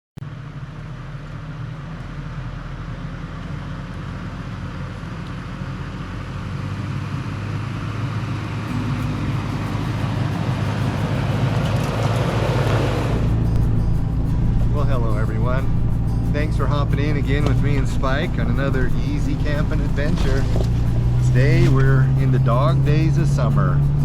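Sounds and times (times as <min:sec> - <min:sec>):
car engine hum: 0:00.2 - 0:24.0
road noise rushing: 0:00.3 - 0:24.0.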